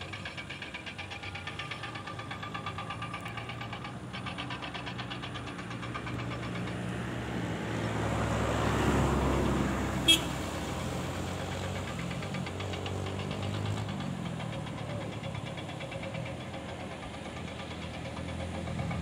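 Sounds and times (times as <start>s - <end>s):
engine running with fast pulse: 0.0s - 19.0s
heavier vehicle engine approaching: 0.0s - 19.0s.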